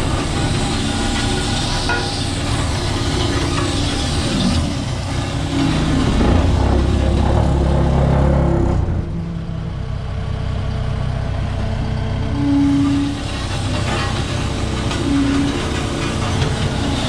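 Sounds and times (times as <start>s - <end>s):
heavy equipment diesel engine revving: 0.0s - 17.0s.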